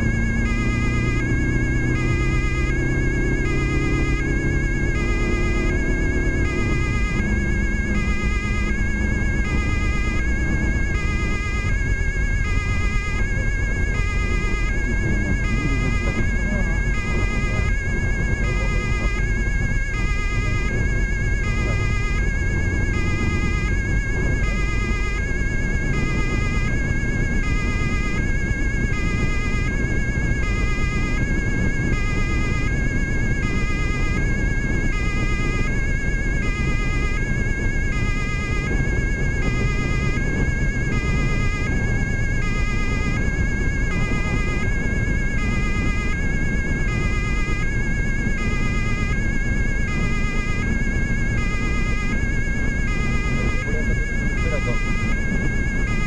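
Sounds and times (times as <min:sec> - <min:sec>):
road and engine noise: 0:00.0 - 0:56.0
two-tone police siren: 0:00.0 - 0:56.0.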